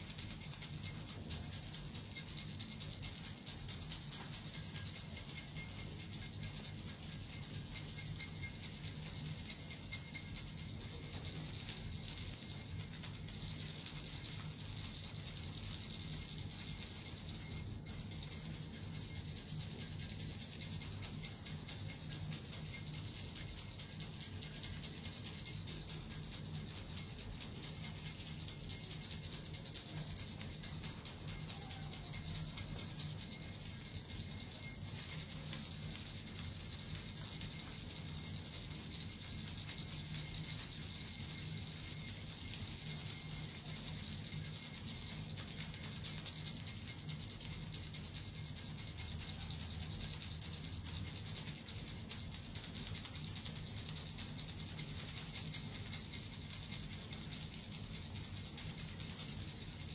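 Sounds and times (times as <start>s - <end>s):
small jingle bells shaken: 0.0s - 59.9s.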